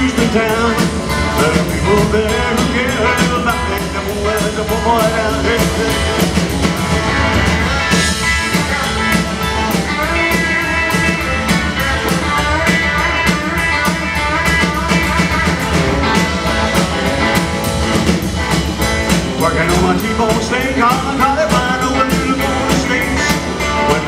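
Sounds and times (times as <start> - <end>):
lead instrument: 0.0 - 24.0
live rock and roll band: 0.0 - 24.0
steady drum beat: 0.0 - 24.0.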